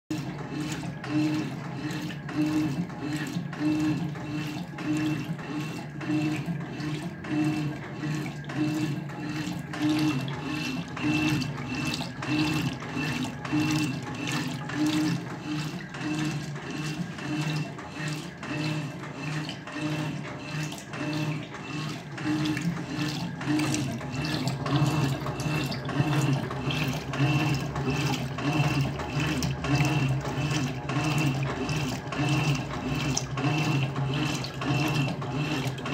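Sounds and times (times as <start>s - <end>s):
motor hum pulsing: 0.1s - 35.9s
washing machine agitator swishing: 0.1s - 35.9s
water sloshing: 0.1s - 35.9s.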